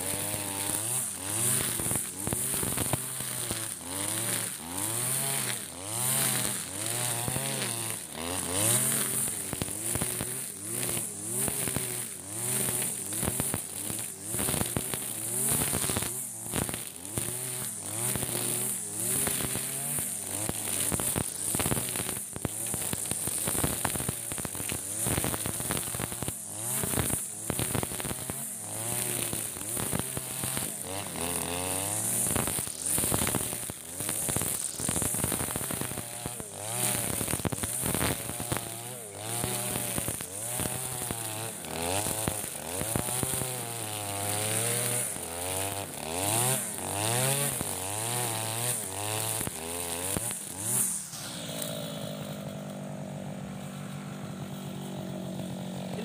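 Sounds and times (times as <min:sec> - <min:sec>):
trimmer line ticking on stems: 0:00.0 - 0:52.8
brush cutter engine revving: 0:00.0 - 0:56.0.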